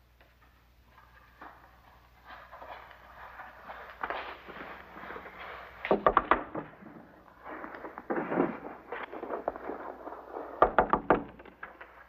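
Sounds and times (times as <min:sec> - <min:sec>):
rustling and handling: 0:00.0 - 0:12.0.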